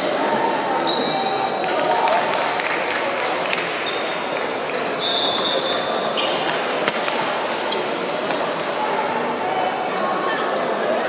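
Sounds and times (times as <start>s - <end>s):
babble of many voices: 0.0s - 11.0s.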